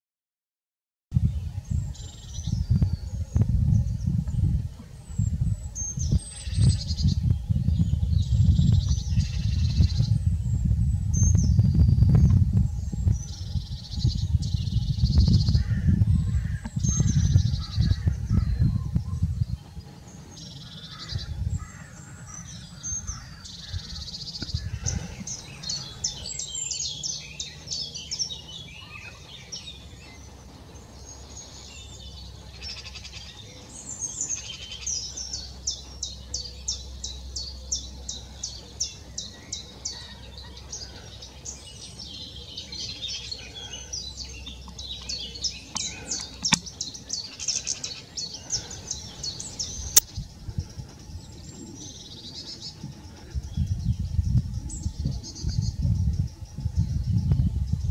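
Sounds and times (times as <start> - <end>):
low steady rumble: 1.2 - 57.9
wild birds singing and calling: 1.2 - 57.9.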